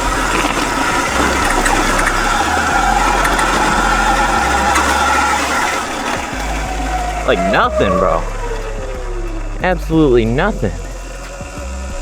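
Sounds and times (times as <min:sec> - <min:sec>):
electric motor whining: 0:00.0 - 0:12.0
wind rumbling on microphone: 0:00.0 - 0:12.0.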